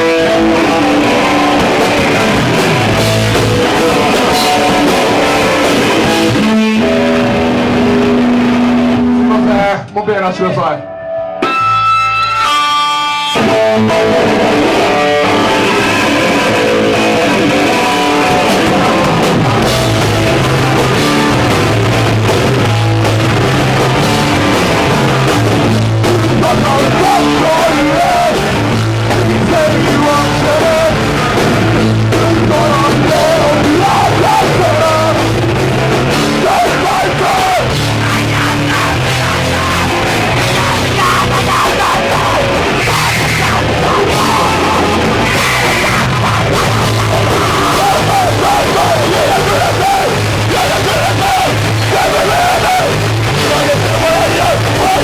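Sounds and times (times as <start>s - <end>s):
punk band playing live: 0.0s - 55.0s.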